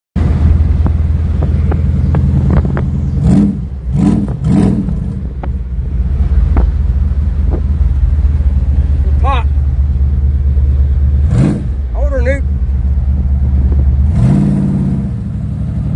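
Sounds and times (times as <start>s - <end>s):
truck engine rumble: 0.2s - 15.9s.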